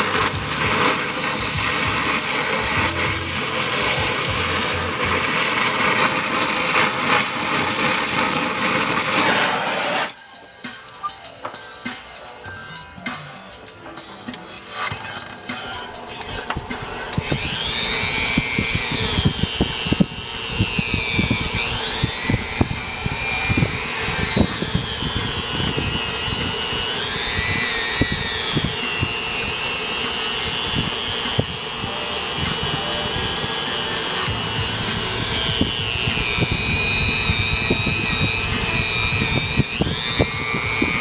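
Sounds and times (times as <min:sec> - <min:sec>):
rotary tool whining: 0:00.0 - 0:41.0
wire wheel scratchy hiss: 0:00.0 - 0:41.0.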